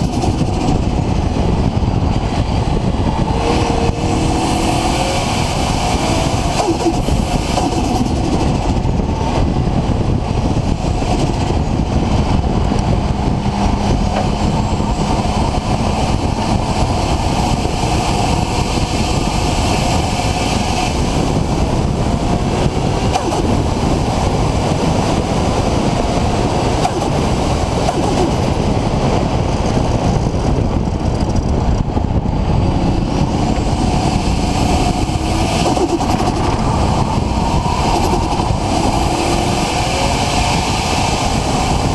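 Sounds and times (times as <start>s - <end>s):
road noise: 0.0s - 41.9s
turbocharged engine running: 0.0s - 41.9s.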